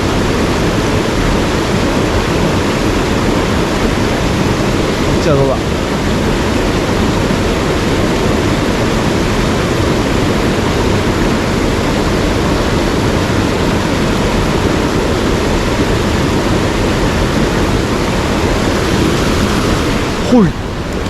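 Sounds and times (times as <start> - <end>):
fast-flowing stream water: 0.0 - 21.0.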